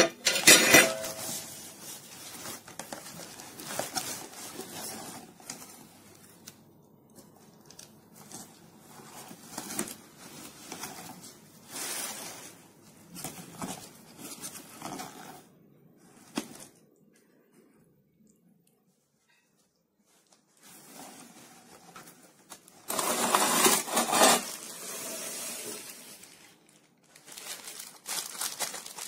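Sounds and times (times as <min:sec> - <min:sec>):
packing material and cardboard rustling: 0:00.0 - 0:16.8, 0:20.0 - 0:29.0.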